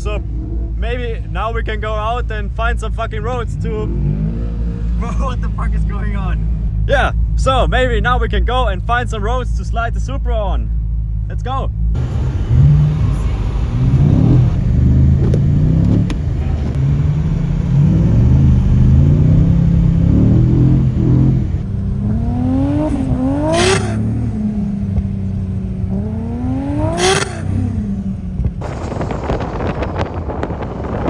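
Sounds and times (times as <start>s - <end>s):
car engine revving under load: 0.0s - 9.2s, 10.8s - 31.0s
exhaust crack: 0.0s - 31.0s.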